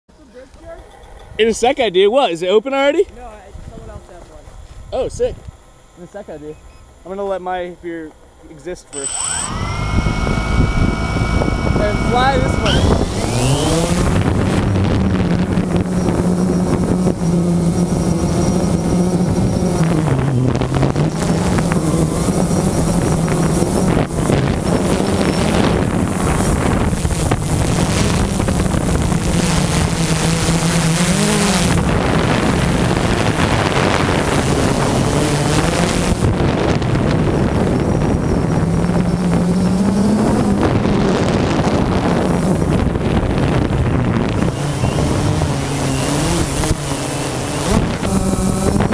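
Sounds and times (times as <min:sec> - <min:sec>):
drone motors whining: 0:08.7 - 0:48.9
wind buffeting microphone: 0:09.1 - 0:48.9.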